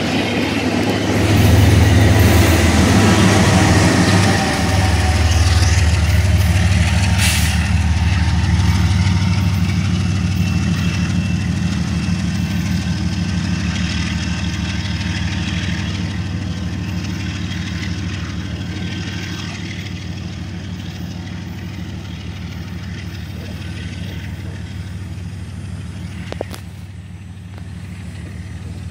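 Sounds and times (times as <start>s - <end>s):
diesel locomotive engine rumbling: 0.0s - 28.9s.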